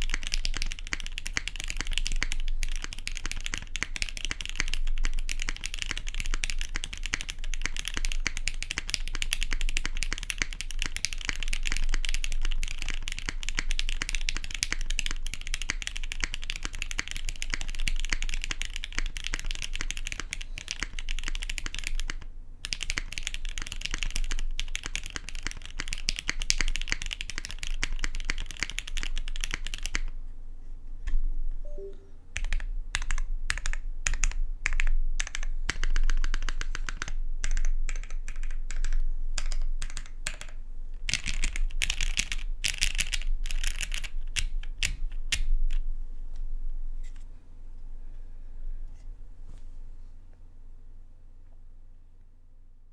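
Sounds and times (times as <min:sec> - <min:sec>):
mechanical keyboard typing: 0:00.0 - 0:30.1, 0:31.7 - 0:45.5.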